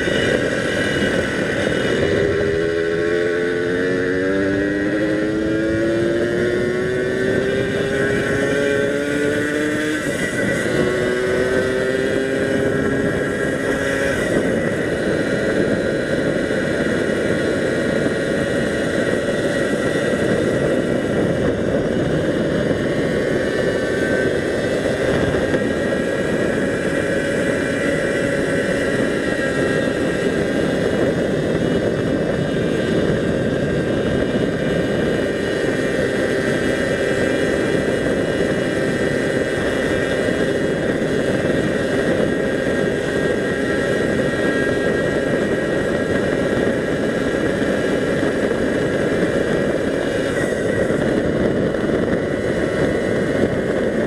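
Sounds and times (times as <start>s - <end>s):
faint engine whine: 0.0s - 54.0s
road and wind noise: 0.0s - 54.0s
vehicle engine hum: 0.0s - 54.0s.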